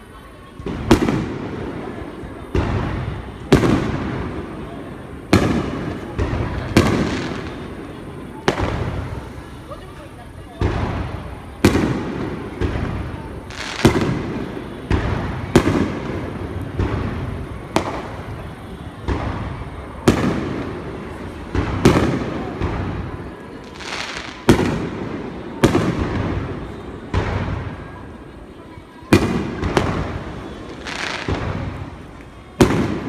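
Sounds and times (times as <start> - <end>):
fireworks booming: 0.0 - 33.0.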